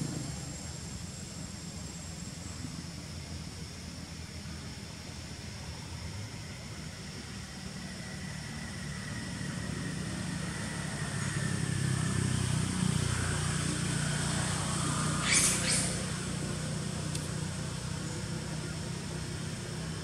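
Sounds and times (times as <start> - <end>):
steady motor hum: 0.0 - 20.0.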